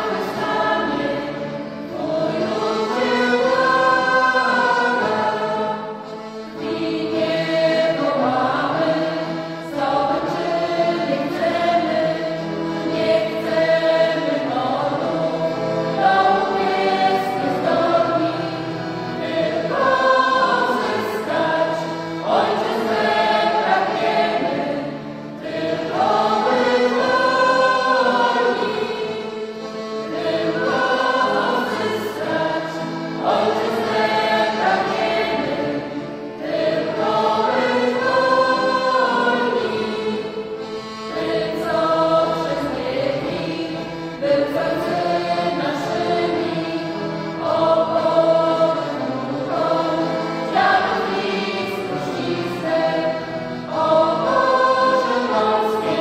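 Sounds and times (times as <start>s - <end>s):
vocal ensemble singing folk song: 0.0s - 56.0s.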